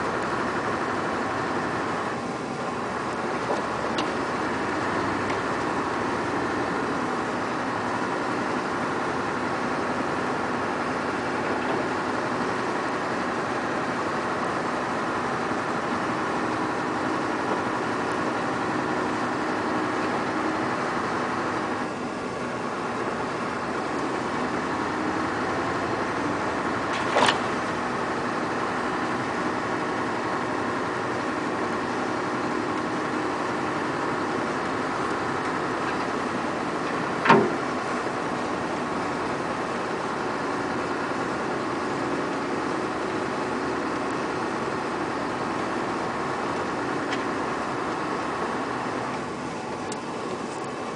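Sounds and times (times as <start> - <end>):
truck diesel engine running: 0.0 - 50.9.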